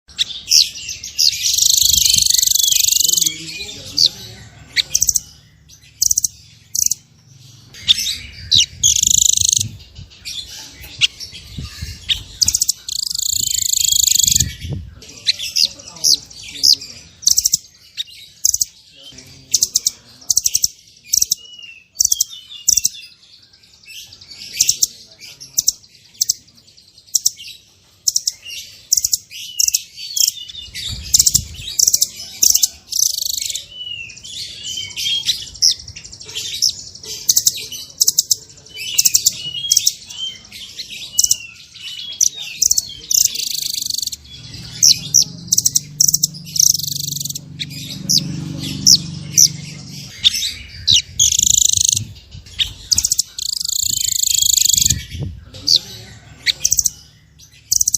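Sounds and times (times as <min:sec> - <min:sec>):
bird calling with sharp high notes: 0:00.1 - 0:18.8, 0:28.0 - 0:55.8.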